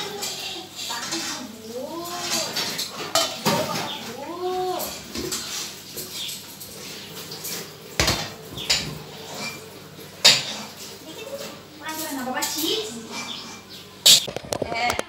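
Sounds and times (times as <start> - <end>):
steel bowls and spoons clinking: 0.0 - 14.3.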